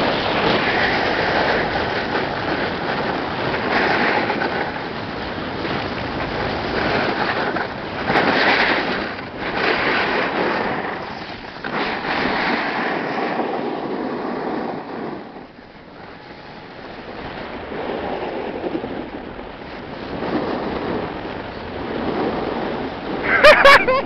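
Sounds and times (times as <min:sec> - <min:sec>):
snowboard scraping over snow: 0:00.0 - 0:24.0
wind rushing over microphone: 0:00.0 - 0:24.0.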